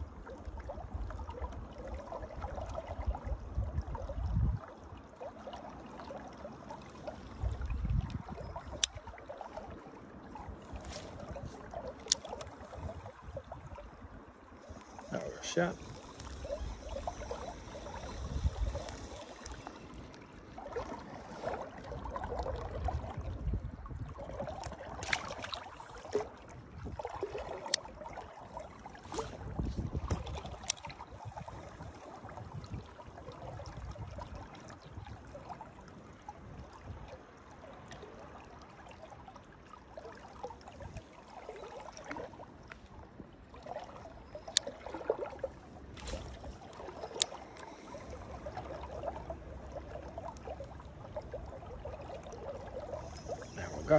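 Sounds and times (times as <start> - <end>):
river water trickling: 0.0 - 53.9.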